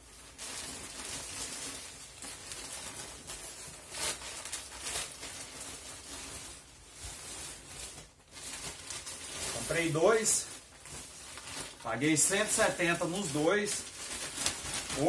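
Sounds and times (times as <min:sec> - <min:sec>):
plastic packaging rustling: 0:00.0 - 0:15.0.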